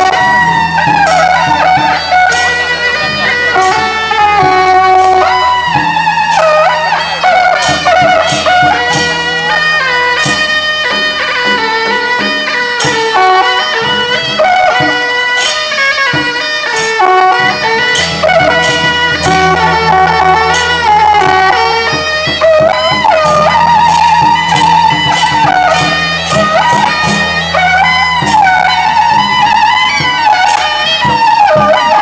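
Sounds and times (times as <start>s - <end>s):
percussion strikes: 0.0s - 32.0s
reed wind instrument melody: 0.0s - 32.0s.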